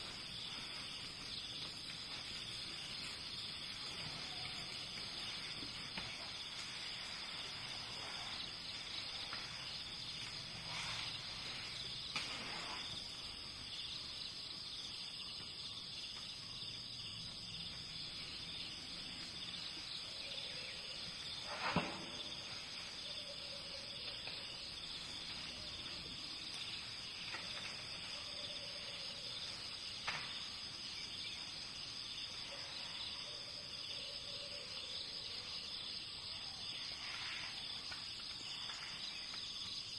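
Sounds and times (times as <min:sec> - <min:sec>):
forest ambience: 0:00.0 - 0:39.9
insects chirring: 0:00.0 - 0:39.9.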